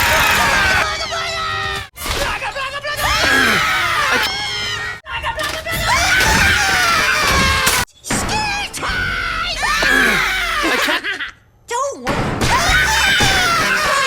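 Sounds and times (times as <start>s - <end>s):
shrill wailing cartoon voices: 0.0s - 11.2s, 12.5s - 14.0s.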